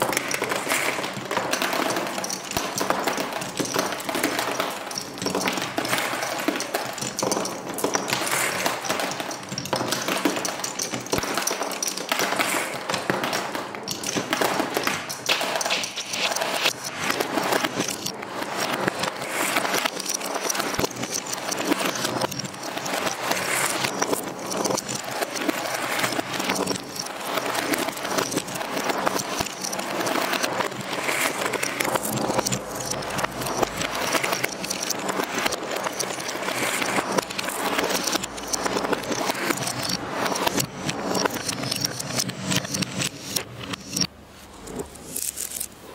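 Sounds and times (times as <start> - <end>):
marbles rolling on wooden track: 0.0 - 45.7.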